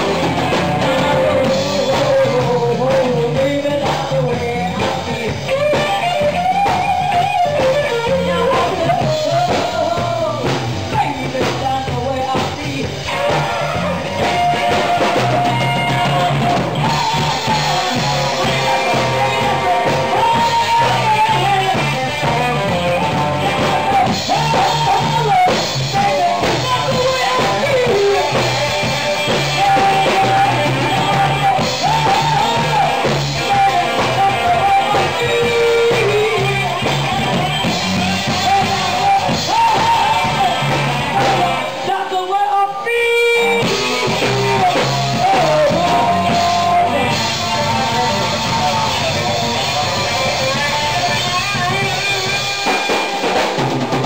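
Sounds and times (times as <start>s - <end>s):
drum kit: 0.0s - 54.0s
electric bass: 0.0s - 54.0s
electric guitar: 0.0s - 54.0s
woman singing: 0.8s - 49.0s.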